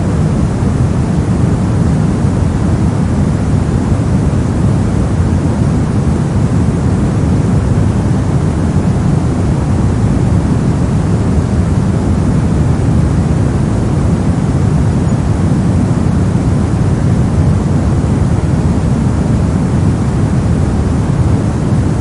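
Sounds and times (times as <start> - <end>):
brown noise: 0.0 - 22.0.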